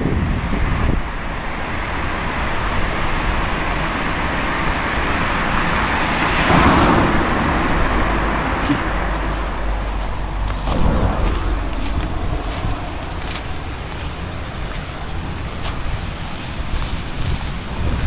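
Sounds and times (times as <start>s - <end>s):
small van passing by: 2.0s - 18.0s.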